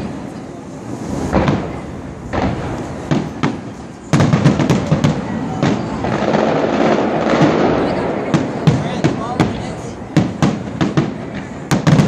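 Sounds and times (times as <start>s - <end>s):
fireworks booming bursts: 0.0s - 12.0s
rapid firework bangs and cracks: 0.0s - 12.0s.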